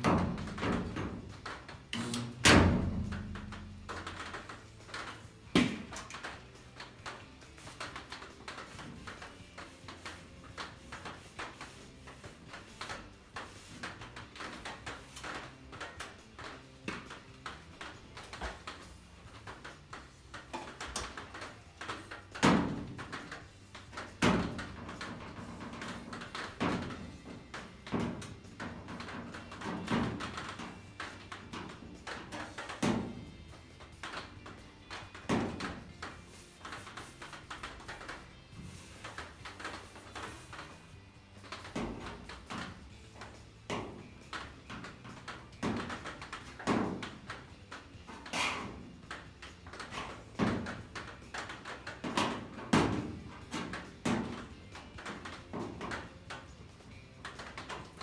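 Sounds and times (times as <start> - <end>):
small clicks and rattles: 0.0 - 58.0
workshop knocks and clunks: 0.0 - 58.0.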